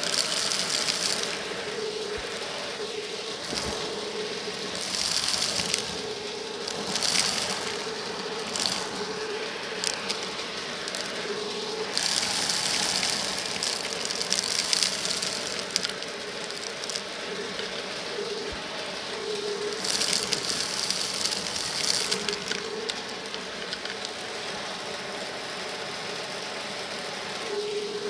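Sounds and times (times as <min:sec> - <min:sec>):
debris rattling through nozzle: 0:00.0 - 0:24.2
vacuum cleaner humming: 0:00.0 - 0:28.0.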